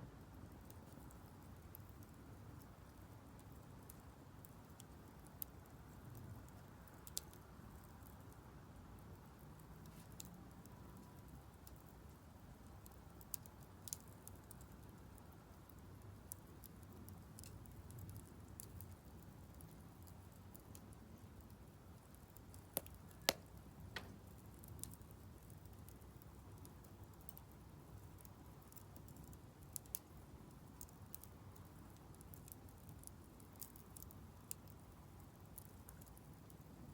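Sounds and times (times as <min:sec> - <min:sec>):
low fire rumble: 0:00.2 - 0:36.9
firewood crackling and popping: 0:00.4 - 0:08.3, 0:09.2 - 0:36.9.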